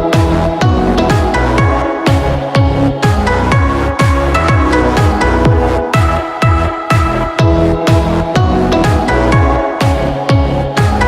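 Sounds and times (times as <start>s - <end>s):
deep kick drum: 0.0s - 11.0s
held synth chords: 0.0s - 11.0s.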